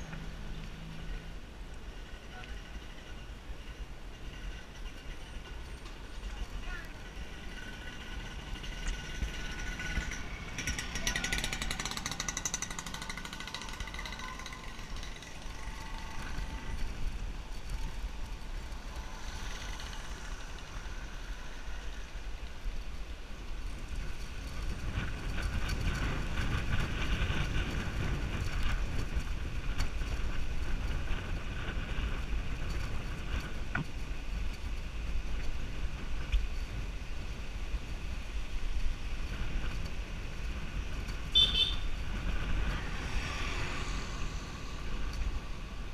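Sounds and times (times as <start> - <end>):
bicycle ride rumble: 0.0 - 45.9
wind on microphone: 6.8 - 45.9.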